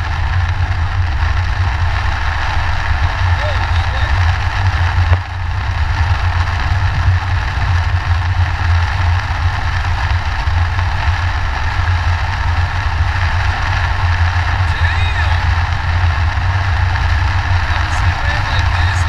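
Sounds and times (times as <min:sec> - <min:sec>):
engine and road noise: 0:00.0 - 0:19.0
rain and tyre spray hiss: 0:00.0 - 0:19.0.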